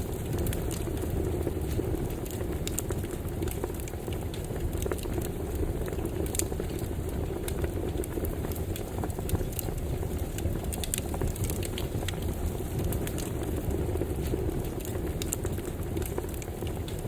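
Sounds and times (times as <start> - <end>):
campfire flames rushing: 0.0 - 17.0
fire crackles and pops: 0.0 - 17.0.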